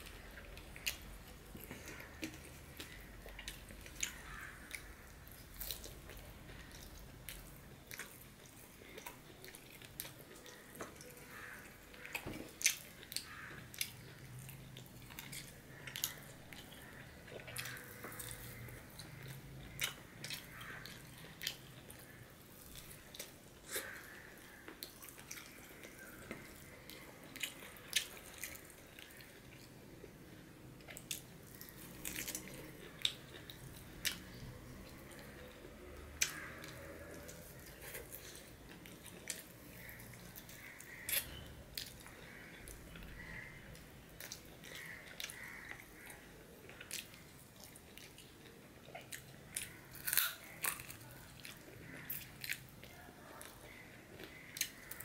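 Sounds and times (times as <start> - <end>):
close chewing: 0.0 - 29.8, 30.8 - 55.0.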